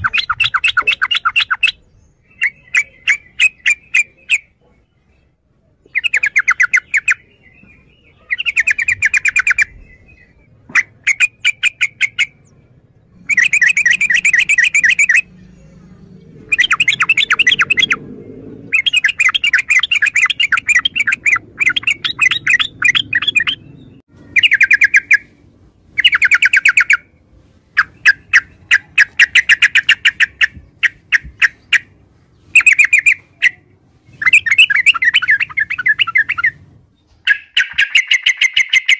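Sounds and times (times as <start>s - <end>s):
bulbul singing: 0.0s - 27.2s, 27.8s - 38.9s.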